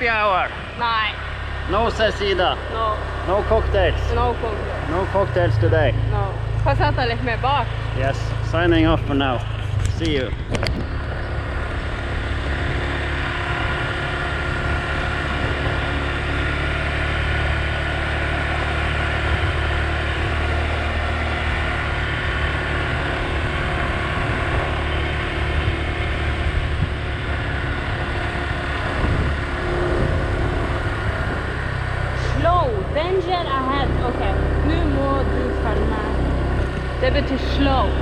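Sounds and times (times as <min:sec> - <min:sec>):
motor scooter running: 0:00.0 - 0:38.0.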